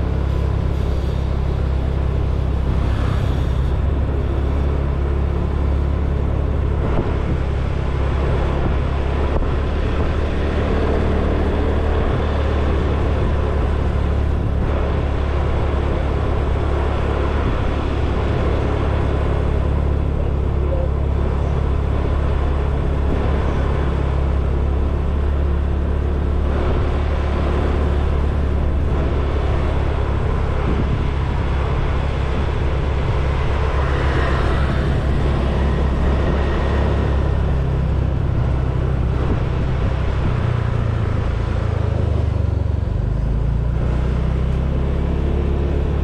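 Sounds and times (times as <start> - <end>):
road noise: 0.0 - 46.0.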